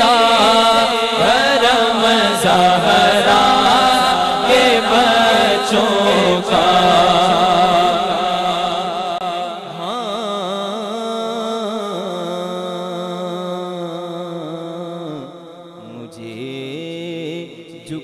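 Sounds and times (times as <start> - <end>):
men singing devotional song: 0.0 - 18.0.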